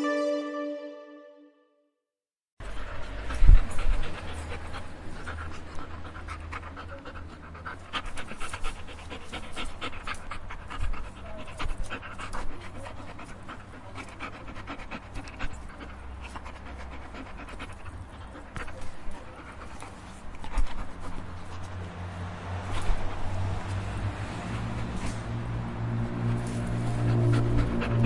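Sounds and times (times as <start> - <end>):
dog panting: 2.6 - 28.0.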